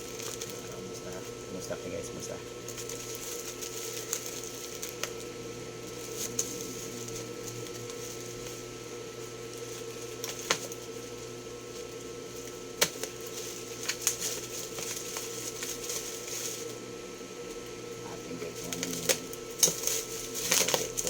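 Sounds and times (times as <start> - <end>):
packaging rustling: 0.0 - 1.2, 2.2 - 11.1, 11.7 - 16.8, 18.5 - 21.0
steady background hum: 0.0 - 21.0.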